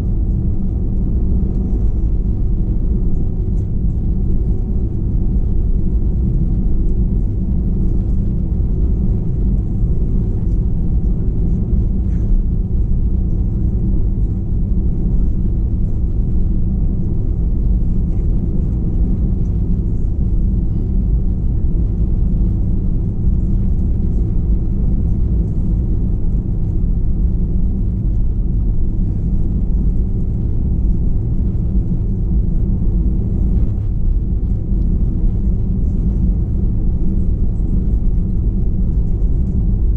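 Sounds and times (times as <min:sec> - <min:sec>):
airplane cabin rumble: 0:00.0 - 0:39.9
steady hum tones: 0:00.0 - 0:39.9.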